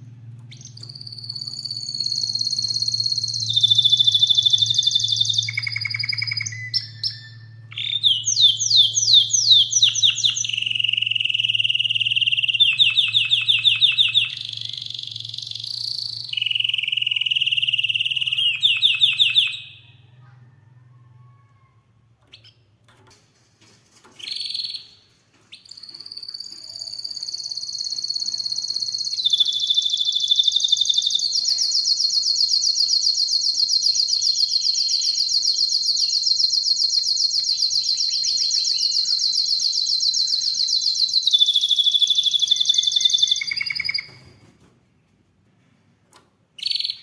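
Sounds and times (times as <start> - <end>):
canary chirping and trilling: 0.4 - 20.2, 22.2 - 22.8, 24.2 - 44.5, 46.6 - 47.0.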